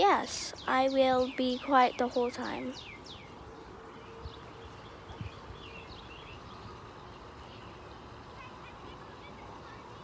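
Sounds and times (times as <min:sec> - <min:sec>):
distant birds chirping: 0:00.0 - 0:10.0
low outdoor rumble: 0:00.0 - 0:10.0.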